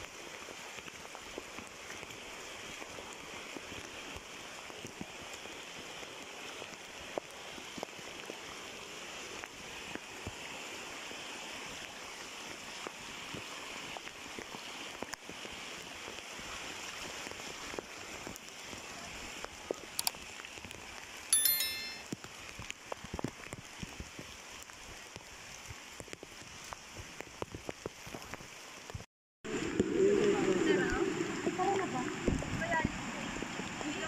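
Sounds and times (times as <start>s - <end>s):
stream water flowing over rocks: 0.0s - 34.0s.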